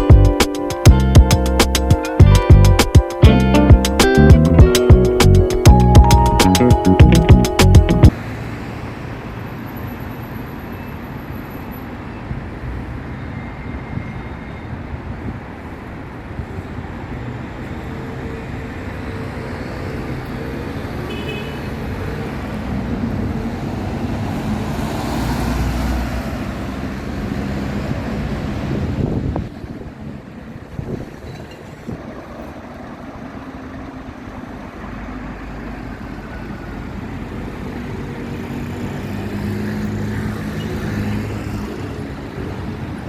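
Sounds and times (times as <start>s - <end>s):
rumble of road traffic: 0.0s - 43.0s.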